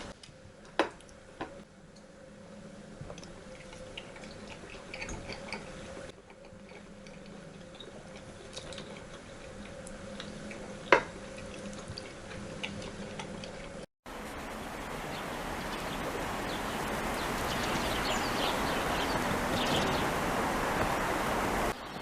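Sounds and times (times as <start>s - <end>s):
steady appliance hum: 0.0s - 22.0s.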